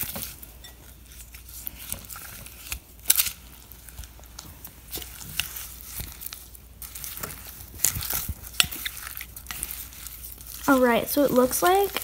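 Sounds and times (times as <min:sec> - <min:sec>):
slime squishing in a glass bowl: 0:00.0 - 0:12.0.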